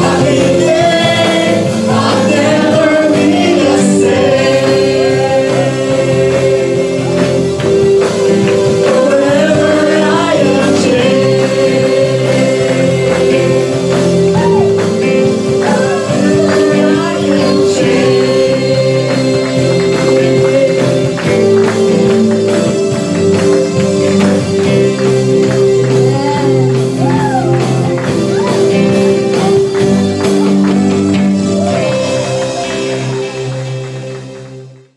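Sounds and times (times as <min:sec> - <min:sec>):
gospel worship singing: 0:00.0 - 0:34.8
sustained chords: 0:00.0 - 0:34.9.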